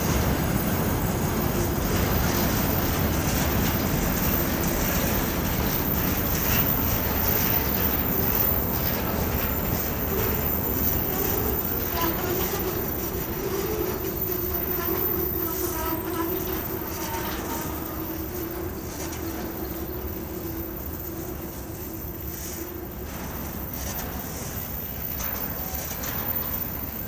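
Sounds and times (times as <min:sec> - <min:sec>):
freight train rumble: 0:00.0 - 0:27.0
train wheels squealing: 0:00.0 - 0:27.0.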